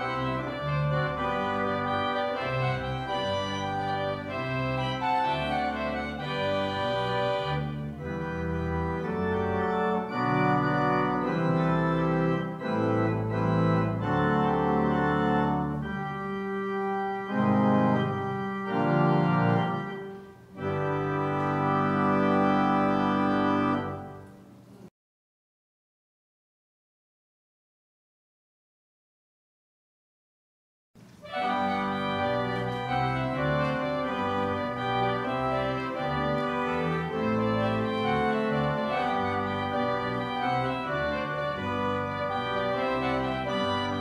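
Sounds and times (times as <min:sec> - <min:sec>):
organ playing slow chords: 0:00.0 - 0:24.9, 0:31.1 - 0:44.0.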